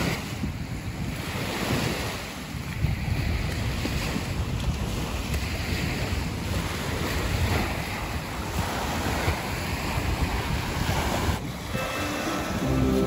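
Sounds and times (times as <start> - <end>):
small waves on shore: 0.0 - 13.0
wind buffeting microphone: 0.0 - 13.0.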